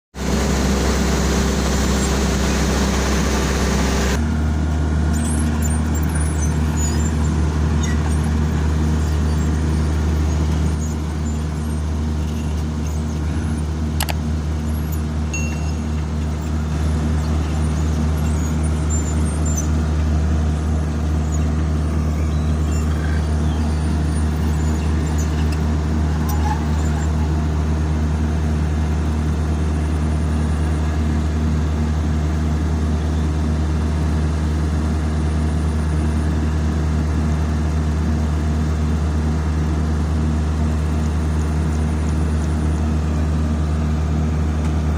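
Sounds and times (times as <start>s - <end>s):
diesel engines droning: 0.2s - 44.9s.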